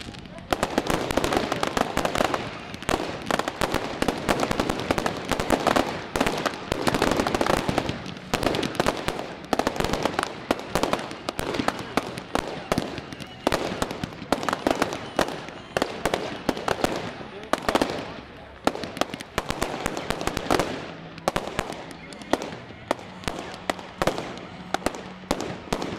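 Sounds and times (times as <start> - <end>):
fireworks bangs and crackles: 0.0 - 25.9.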